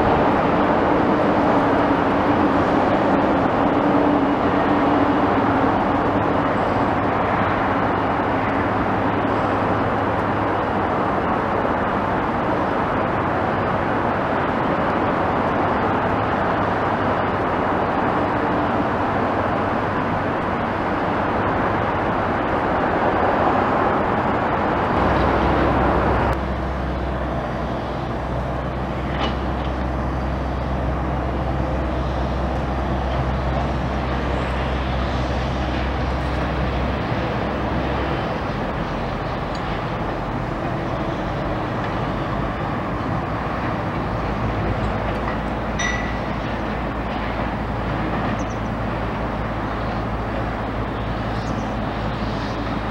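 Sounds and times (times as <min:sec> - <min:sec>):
engine and traffic rumble: 0:00.0 - 0:52.9.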